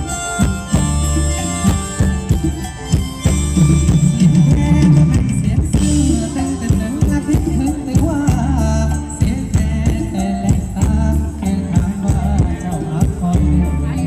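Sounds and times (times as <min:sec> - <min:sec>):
drum kit beat: 0:00.0 - 0:14.0
live dance band over loudspeakers: 0:00.0 - 0:14.0.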